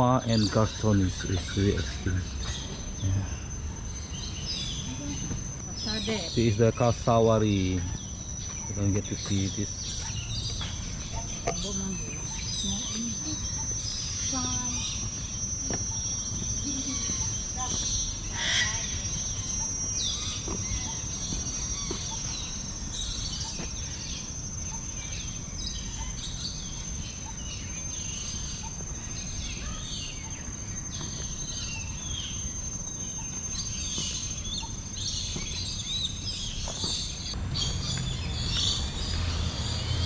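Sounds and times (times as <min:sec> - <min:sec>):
many birds chirping: 0:00.0 - 0:40.0
steady high-pitched whine: 0:00.0 - 0:40.0.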